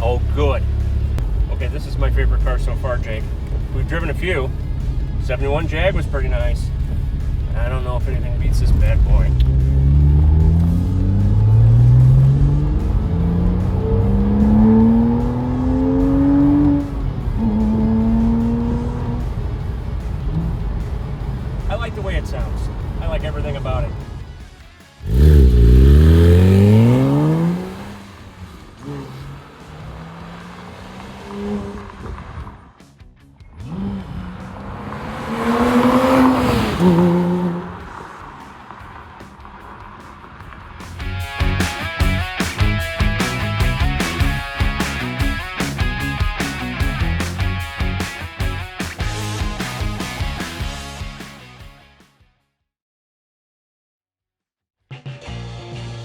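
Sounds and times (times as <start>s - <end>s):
sports car engine accelerating: 0.0s - 21.7s, 25.0s - 51.5s.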